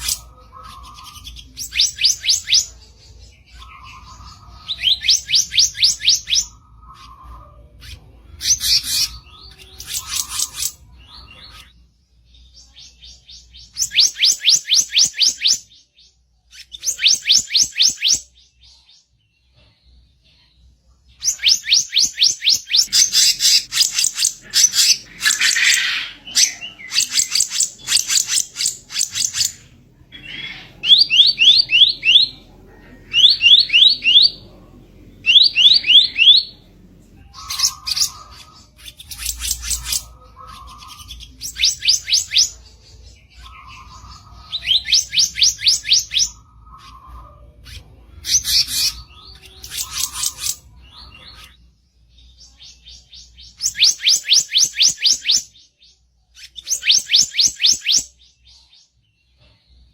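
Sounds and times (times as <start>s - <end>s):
songbird chirping: 0.0s - 59.9s.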